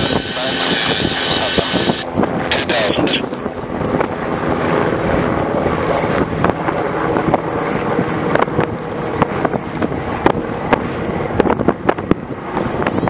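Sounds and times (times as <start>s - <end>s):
helicopter flying overhead: 0.0s - 13.0s
wind buffeting microphone: 0.0s - 13.0s.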